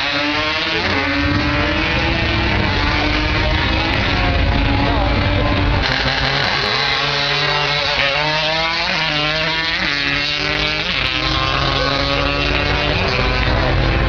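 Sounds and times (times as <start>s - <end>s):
drag racing engines revving: 0.0s - 14.0s.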